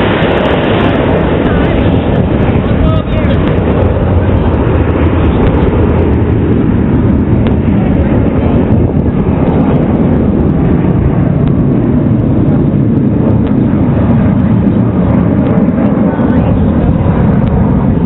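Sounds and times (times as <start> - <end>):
loud jet engine noise: 0.0 - 18.0.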